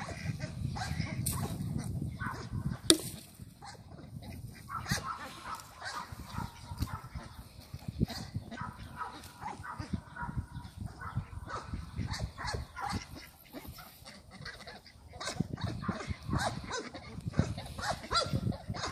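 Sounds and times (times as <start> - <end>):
geese honking: 0.0 - 2.4, 3.7 - 18.9
ducks quacking: 0.0 - 18.9.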